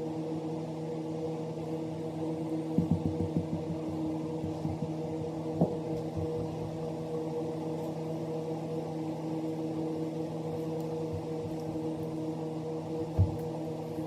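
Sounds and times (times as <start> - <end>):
shop vac motor humming: 0.0 - 14.0.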